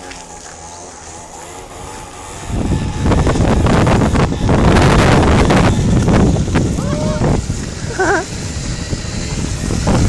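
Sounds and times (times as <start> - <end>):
moped engine revving: 0.0 - 10.0
wind rumble on microphone: 1.6 - 10.0.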